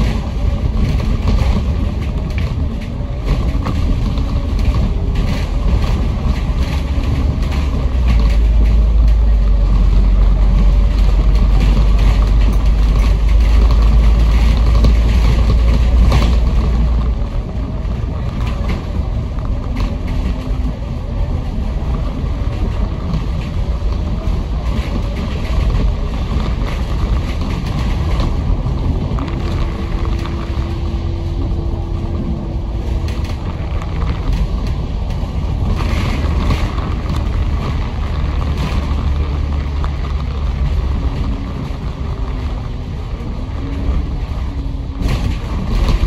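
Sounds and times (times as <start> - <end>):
bus engine and road noise: 0.0 - 46.0
deep low rumble: 0.0 - 46.0.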